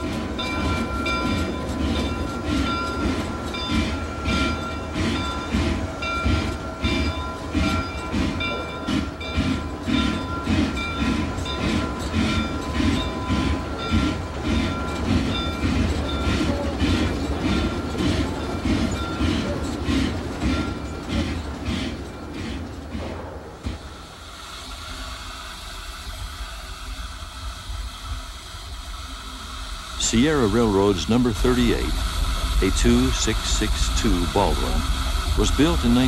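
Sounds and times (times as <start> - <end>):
steam locomotive chuffing: 0.0 - 36.0.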